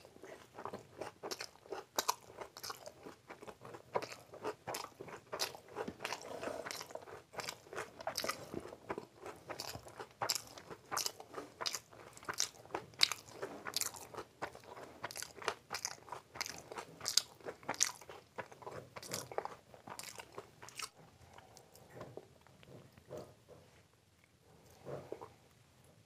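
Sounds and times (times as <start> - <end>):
close-miked chewing: 0.0 - 26.0.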